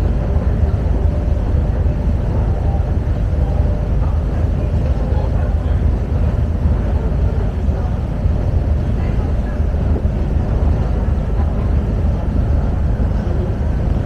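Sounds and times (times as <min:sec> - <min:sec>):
faint voices: 0:00.0 - 0:14.0
ferry engine rumble: 0:00.0 - 0:14.0.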